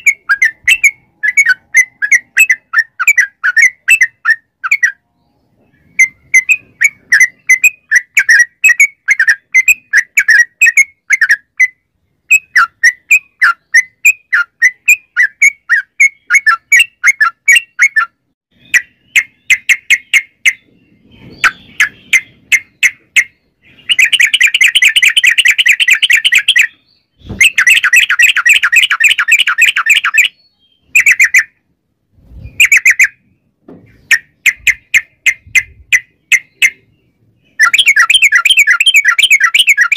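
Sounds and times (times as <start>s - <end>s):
bird chattering song: 0.0s - 31.7s, 32.3s - 39.9s.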